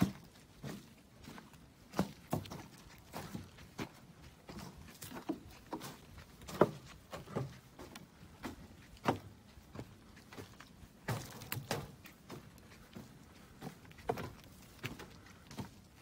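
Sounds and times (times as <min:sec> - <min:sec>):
footsteps on woodland trail: 0:00.0 - 0:16.0.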